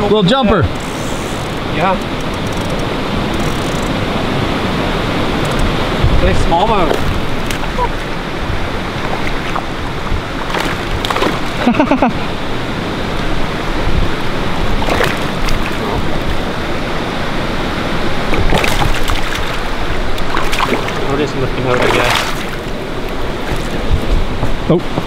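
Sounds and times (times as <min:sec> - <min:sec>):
water rushing: 0:00.0 - 0:25.0
waves lapping: 0:00.0 - 0:25.0
wind on microphone: 0:00.0 - 0:25.0.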